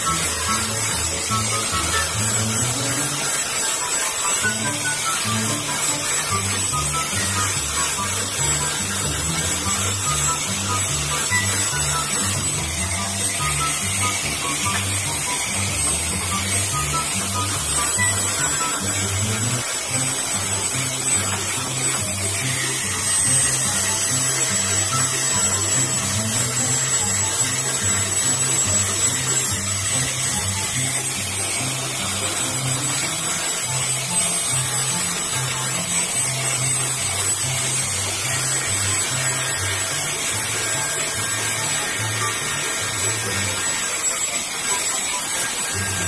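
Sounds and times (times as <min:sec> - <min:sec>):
background music with bass line: 0:00.0 - 0:44.2
angle grinder sanding wood: 0:00.0 - 0:46.0.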